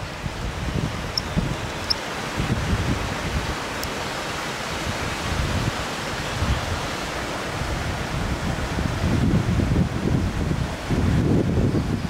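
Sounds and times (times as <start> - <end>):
wind buffeting microphone: 0.0 - 3.7, 4.8 - 12.0
waterfall rushing into pool: 0.0 - 12.0.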